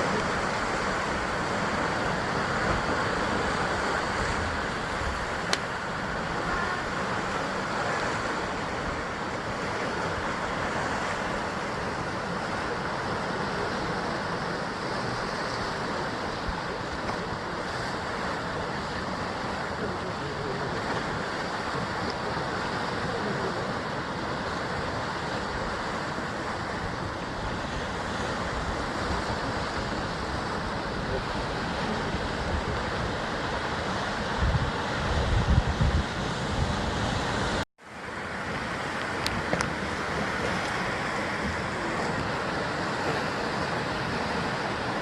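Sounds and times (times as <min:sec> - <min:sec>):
sea waves washing on rocks: 0:00.0 - 0:45.0.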